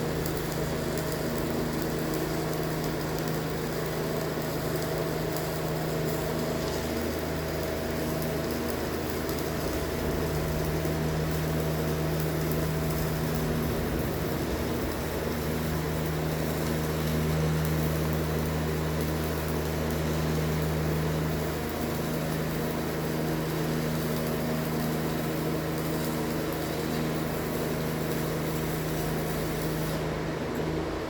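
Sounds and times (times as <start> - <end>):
welding equipment humming and hissing: 0.0 - 31.0.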